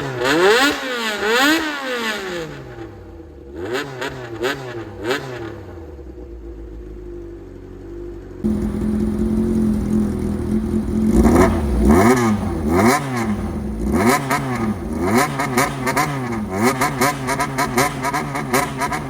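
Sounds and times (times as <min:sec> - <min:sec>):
motorcycle engine revving: 0:00.0 - 0:07.2, 0:08.2 - 0:19.0.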